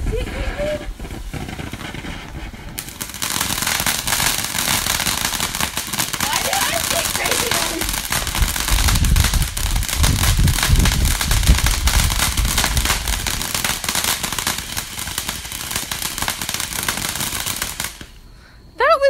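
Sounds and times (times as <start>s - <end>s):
firework fountain hissing and crackling: 0.0s - 18.9s.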